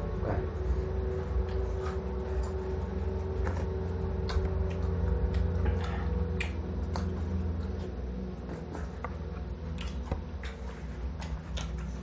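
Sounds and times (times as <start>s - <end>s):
mouth chewing crunchy food: 0.0s - 12.0s
steady low hum: 0.0s - 12.0s.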